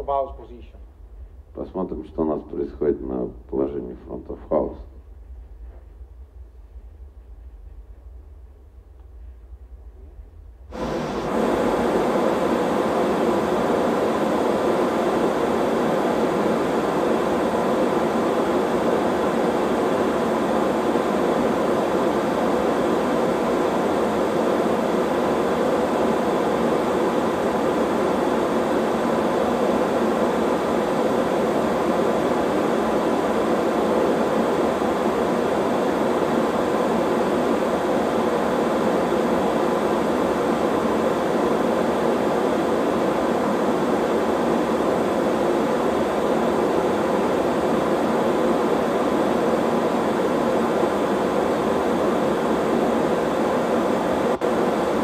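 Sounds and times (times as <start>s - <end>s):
noise test signal through loudspeakers: 10.7s - 55.0s.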